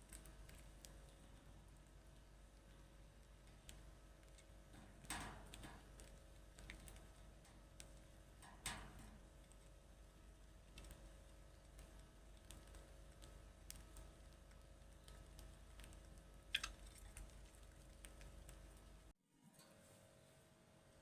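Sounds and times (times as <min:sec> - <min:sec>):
faint clicks and ticks: 0:00.0 - 0:19.2.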